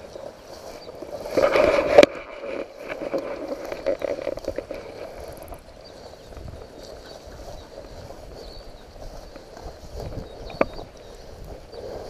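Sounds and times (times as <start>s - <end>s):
footsteps in rustling dry grass: 0.0s - 12.0s.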